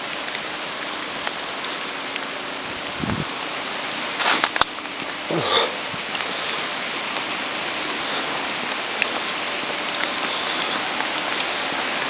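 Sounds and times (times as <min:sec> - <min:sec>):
storm rain falling: 0:00.0 - 0:12.0.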